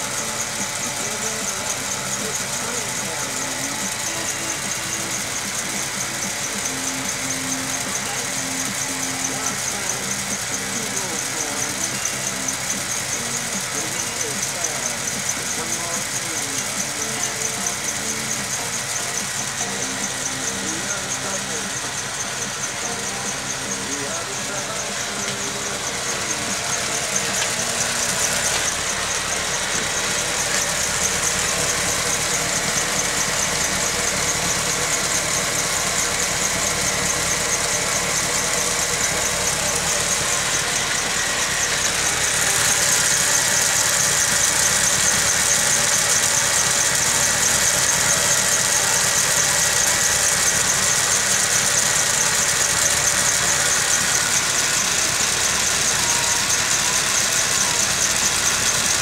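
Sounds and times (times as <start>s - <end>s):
lathe motor humming and whining: 0.0s - 59.0s.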